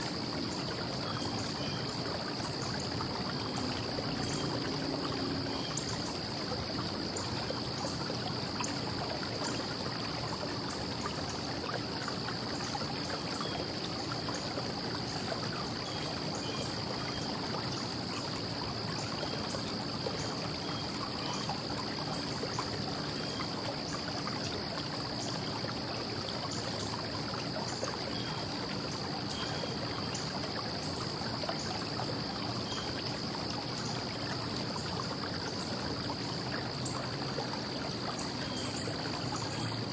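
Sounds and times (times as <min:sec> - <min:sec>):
faint chirps and ticks: 0:00.0 - 0:39.9.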